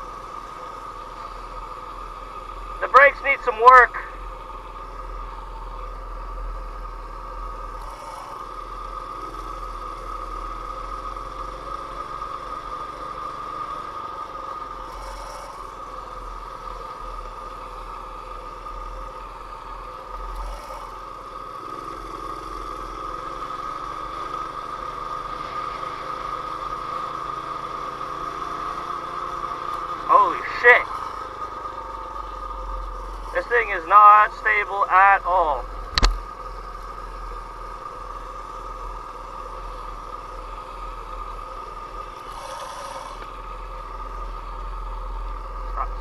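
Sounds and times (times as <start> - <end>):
small engine running: 0.0 - 46.0.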